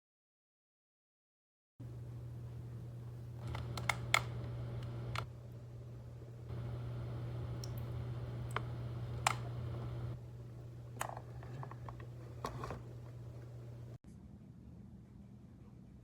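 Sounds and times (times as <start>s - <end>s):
steady low hum: 1.8s - 16.0s.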